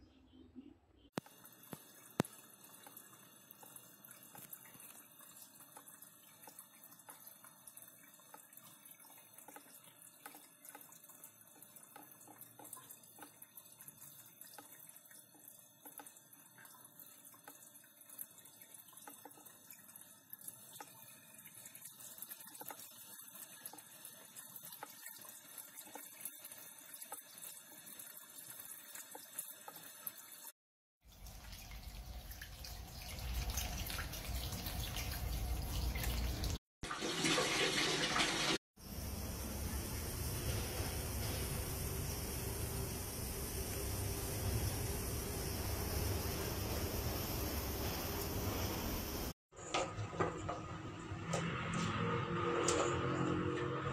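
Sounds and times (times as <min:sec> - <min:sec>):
water trickling down drain: 0:01.2 - 0:37.9, 0:38.8 - 0:49.4
water drips and splashes: 0:01.2 - 0:49.4.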